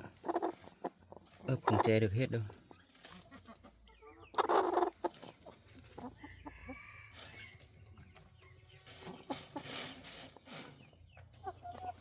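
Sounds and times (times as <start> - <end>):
hen clucking: 0.0 - 12.0.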